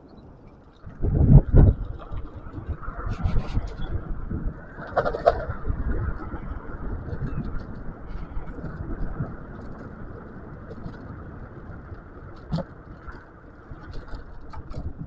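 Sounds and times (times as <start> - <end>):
rushing wind: 0.0 - 15.0
scooter road noise: 0.9 - 15.0.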